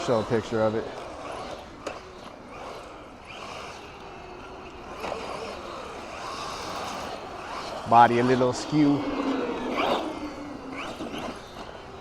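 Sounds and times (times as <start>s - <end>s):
faint rc truck motor whine: 0.0s - 12.0s.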